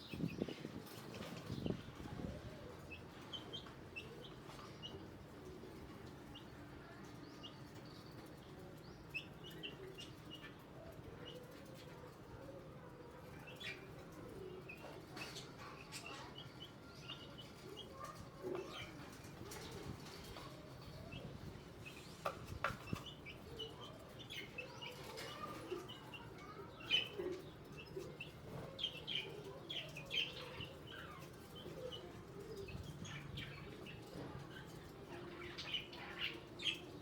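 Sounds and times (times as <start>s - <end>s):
bird chicks peeping: 0.0s - 37.0s.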